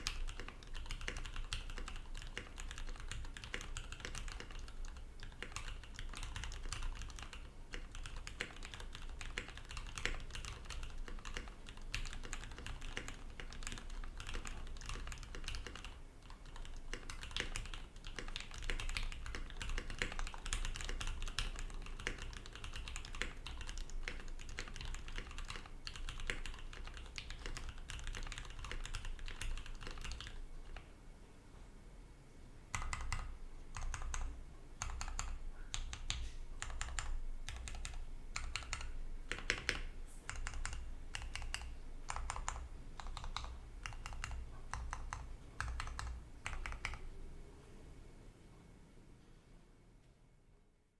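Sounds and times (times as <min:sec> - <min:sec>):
mechanical keyboard typing: 0:00.0 - 0:30.9, 0:32.7 - 0:47.1.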